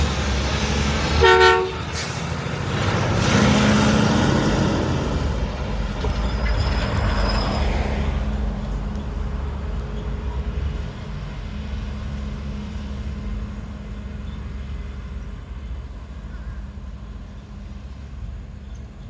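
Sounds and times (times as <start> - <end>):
garbage truck diesel engine droning: 0.0 - 19.0.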